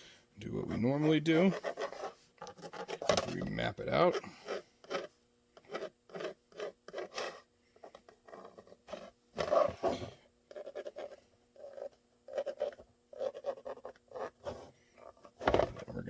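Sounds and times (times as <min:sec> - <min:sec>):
faint steady hum: 0:00.0 - 0:16.0
marker scratching on plastic: 0:00.6 - 0:03.4, 0:04.1 - 0:07.5, 0:08.1 - 0:15.5.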